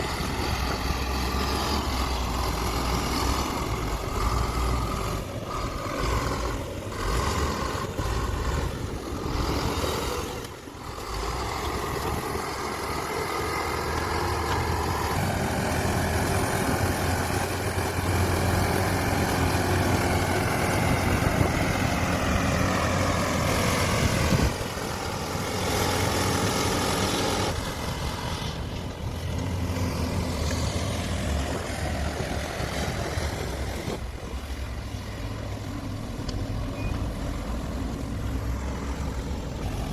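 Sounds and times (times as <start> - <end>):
heavy diesel engines working: 0.0 - 39.9.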